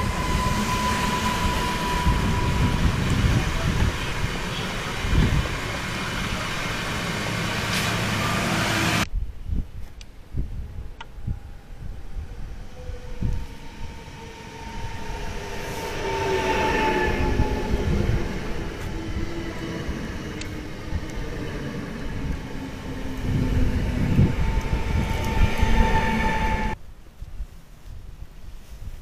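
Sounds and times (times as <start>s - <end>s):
train wheels rumbling on track: 0.0s - 9.1s, 12.0s - 26.8s.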